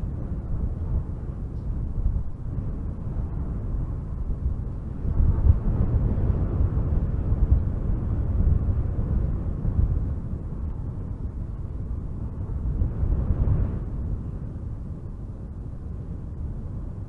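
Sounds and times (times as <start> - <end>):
wind buffeting microphone: 0.0 - 17.0
wind gusting through trees: 0.0 - 17.0.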